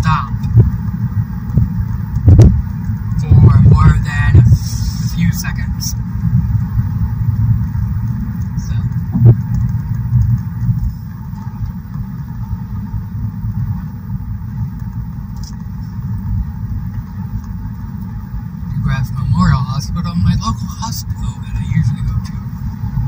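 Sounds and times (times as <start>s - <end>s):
car road rumble from inside: 0.0s - 23.0s.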